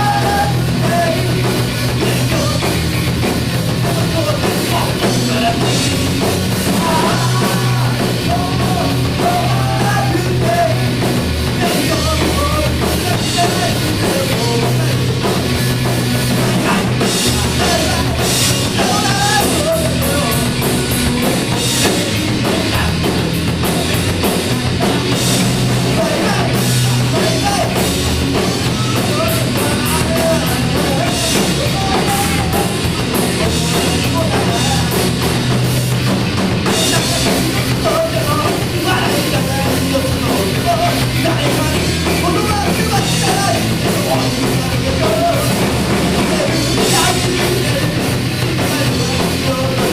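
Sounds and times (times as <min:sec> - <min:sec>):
drum kit: 0:00.0 - 0:49.9
live rock band playing: 0:00.0 - 0:49.9.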